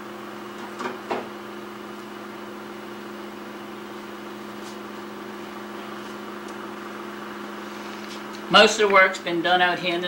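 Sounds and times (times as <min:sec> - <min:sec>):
electric fan motor hum: 0:00.0 - 0:10.0.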